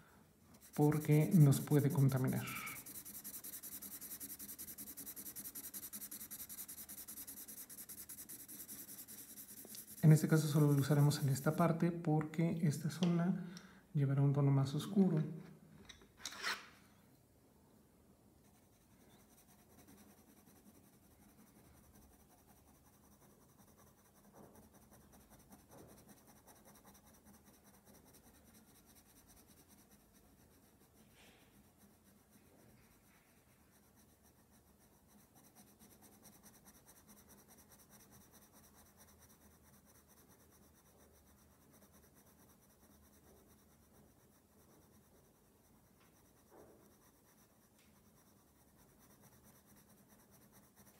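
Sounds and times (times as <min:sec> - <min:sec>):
pencil scratching on paper: 0:00.5 - 0:11.8, 0:18.4 - 0:50.9.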